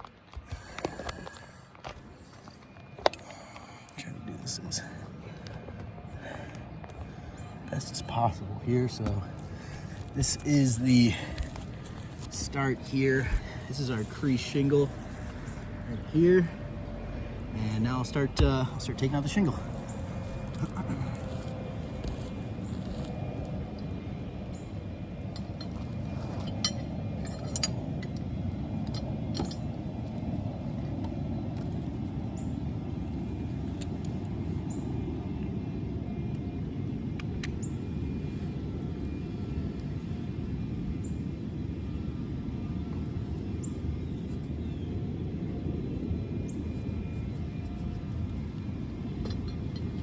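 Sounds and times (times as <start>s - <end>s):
low outdoor rumble: 0.0s - 50.0s.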